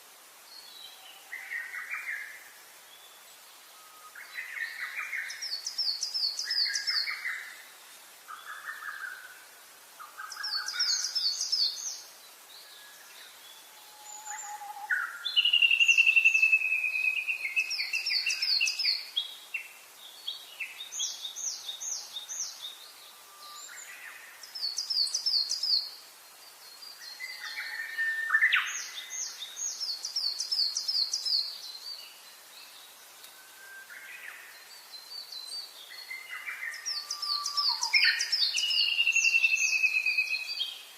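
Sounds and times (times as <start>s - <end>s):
wild birds singing: 0.0s - 40.9s.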